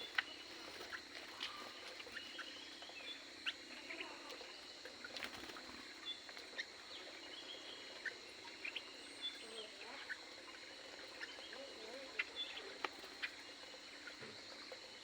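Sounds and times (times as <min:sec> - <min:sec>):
birds chirping: 0:00.0 - 0:14.3.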